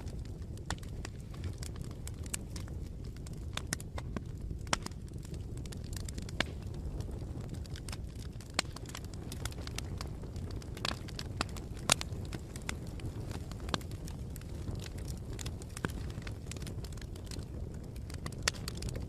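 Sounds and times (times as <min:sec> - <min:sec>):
low rumble of flames: 0:00.0 - 0:19.0
wood crackling and popping: 0:00.0 - 0:19.0.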